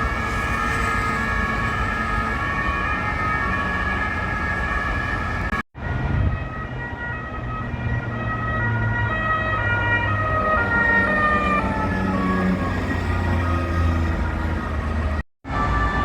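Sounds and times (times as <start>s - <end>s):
engine and road noise: 0.0s - 16.0s
police two-tone sirens: 0.0s - 16.0s.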